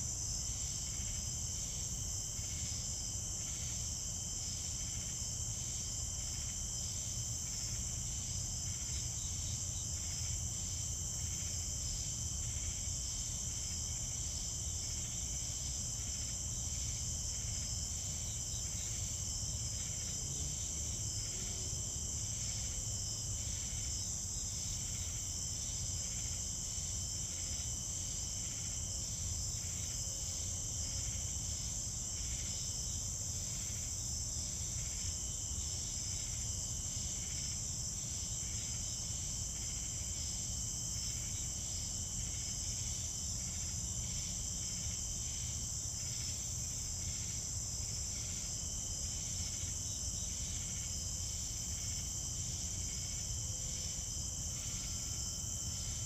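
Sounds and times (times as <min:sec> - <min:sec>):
crickets trilling: 0:00.0 - 0:56.0
low pulsing insect call: 0:00.0 - 0:56.0.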